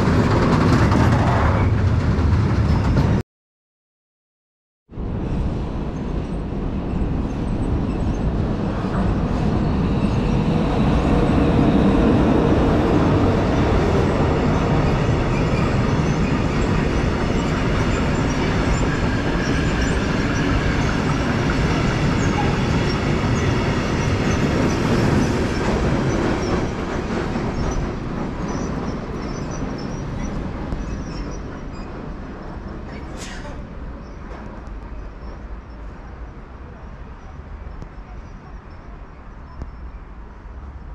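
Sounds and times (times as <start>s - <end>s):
train wheels rolling on rails: 0.0s - 3.2s, 5.0s - 40.9s.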